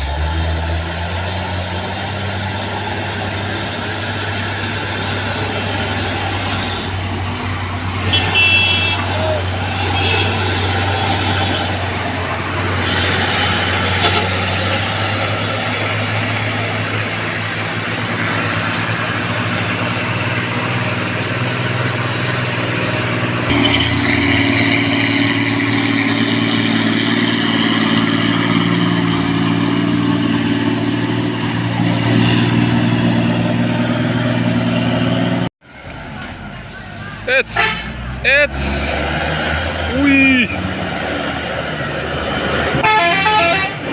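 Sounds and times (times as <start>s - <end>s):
diesel truck engine labouring: 0.0s - 43.9s.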